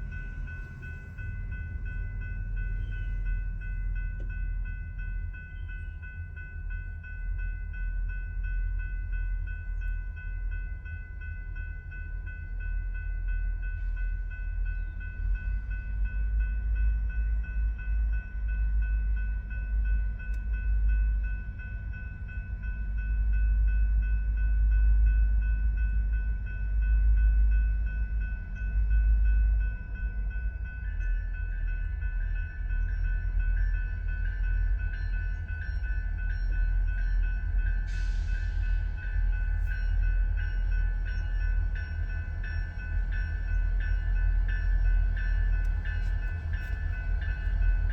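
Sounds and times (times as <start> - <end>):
diesel locomotive rumble: 0.0 - 47.9.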